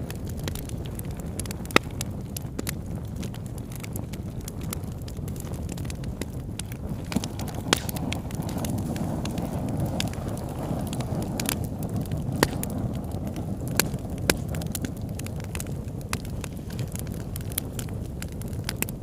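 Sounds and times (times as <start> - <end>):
campfire pops and snaps: 0.0 - 19.0
low rush of flames: 0.0 - 19.0.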